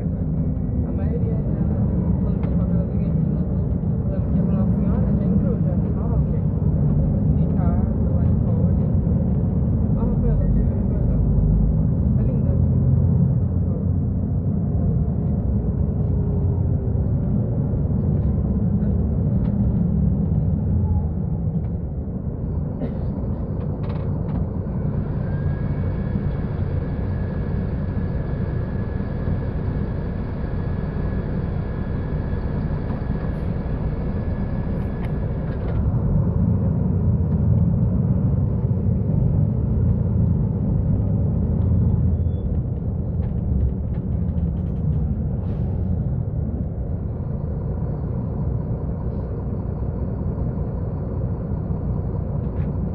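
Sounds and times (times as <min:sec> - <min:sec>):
bus diesel engine rumbling: 0:00.0 - 0:52.9.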